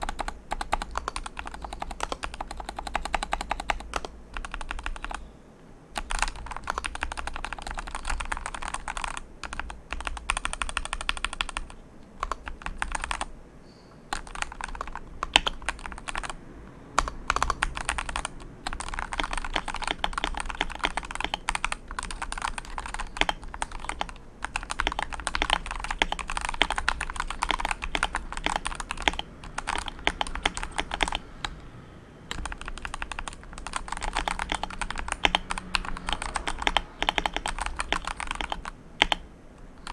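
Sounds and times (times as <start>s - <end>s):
mechanical keyboard typing: 0.0s - 5.2s, 6.0s - 13.3s, 14.1s - 16.4s, 17.0s - 31.6s, 32.3s - 39.9s.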